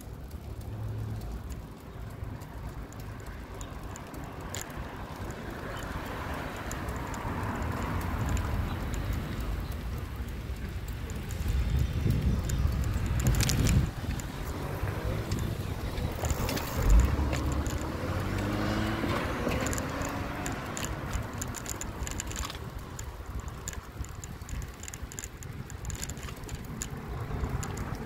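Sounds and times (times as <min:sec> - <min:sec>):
road and wind noise: 0:00.0 - 0:28.0
vehicle motor: 0:04.4 - 0:28.0.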